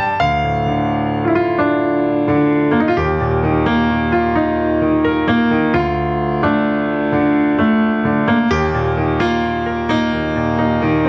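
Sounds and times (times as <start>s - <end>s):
keyboard piano melody: 0.0s - 11.0s.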